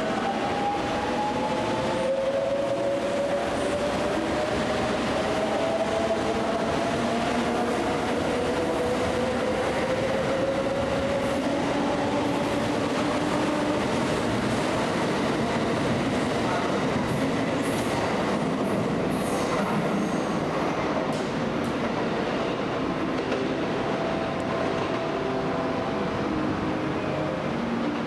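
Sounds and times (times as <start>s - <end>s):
train rail running noise: 0.0s - 28.0s.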